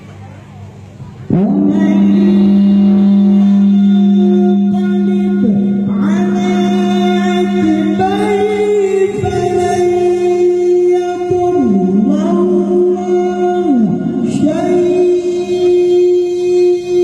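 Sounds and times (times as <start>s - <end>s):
man reciting in sung melody: 1.3s - 17.0s.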